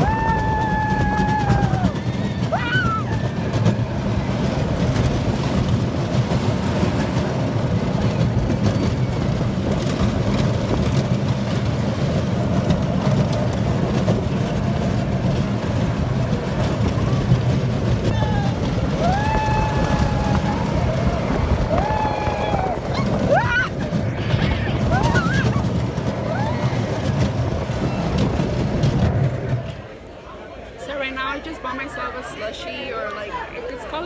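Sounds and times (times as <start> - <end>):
wind buffeting microphone: 0.0 - 30.1
roller coaster wheels rumbling: 0.0 - 34.0.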